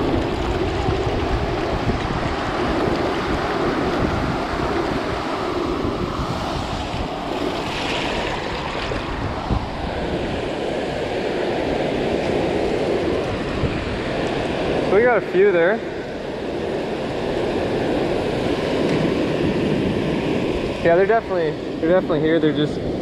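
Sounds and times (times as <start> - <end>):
surf washing in and out: 0.0 - 23.0
wind rumbling on microphone: 0.0 - 23.0.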